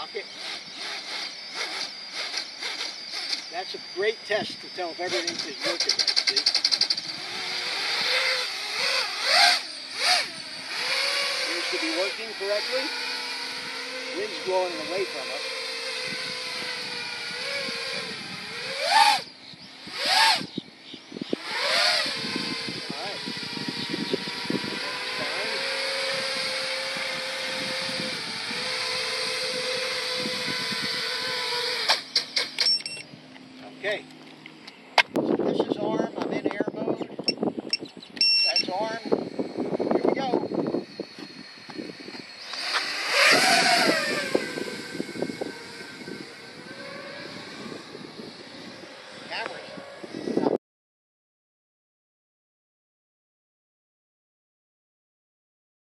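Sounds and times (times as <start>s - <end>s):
quadcopter motors whining: 0.0s - 50.6s.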